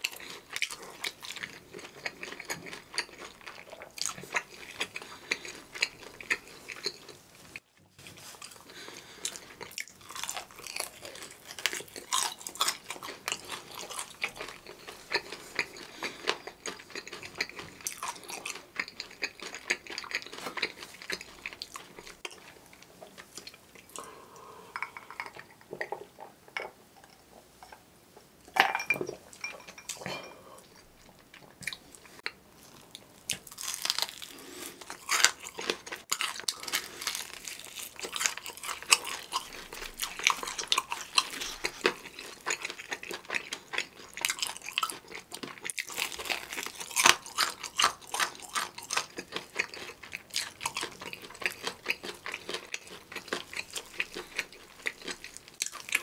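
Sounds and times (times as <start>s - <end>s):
crunchy chewing of fried chicken: 0.0s - 24.6s, 29.9s - 56.0s.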